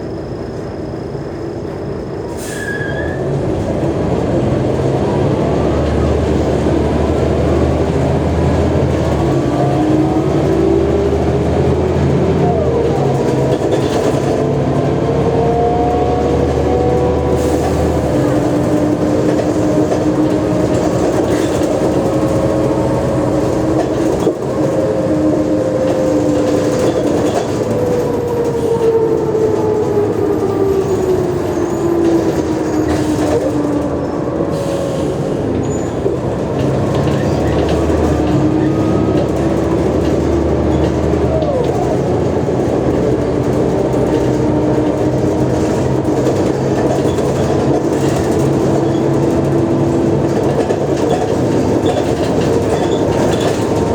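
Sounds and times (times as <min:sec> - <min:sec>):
bus engine whining: 0:00.0 - 0:53.9.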